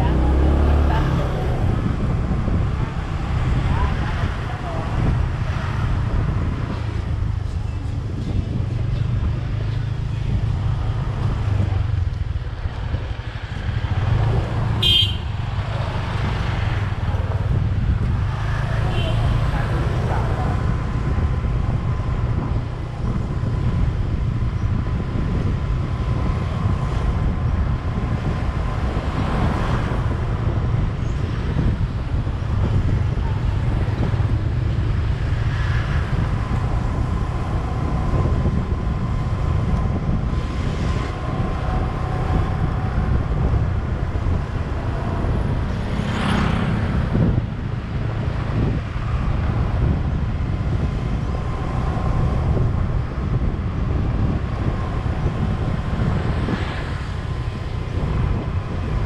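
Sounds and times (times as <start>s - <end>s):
vehicle road rumble: 0.0s - 59.0s
vehicles passing: 0.0s - 59.0s
wind buffeting microphone: 0.0s - 59.0s.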